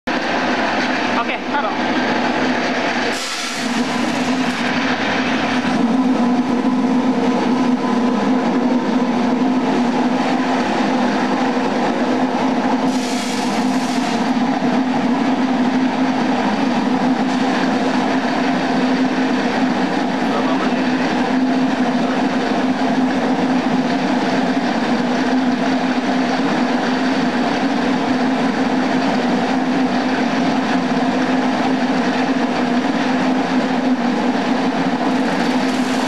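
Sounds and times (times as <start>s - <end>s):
machine motor hum: 0.1s - 36.0s.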